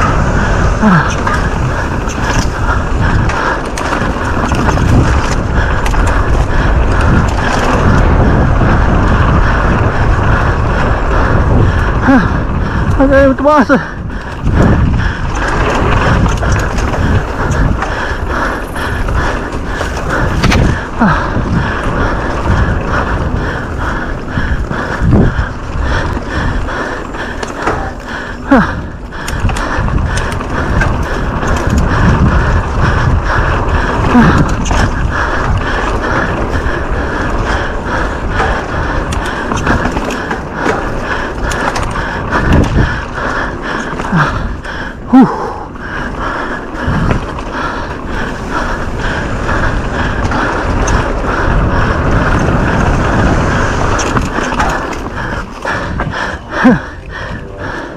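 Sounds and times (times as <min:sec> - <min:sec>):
mountain bike rattling over rocks: 0:00.0 - 0:57.9.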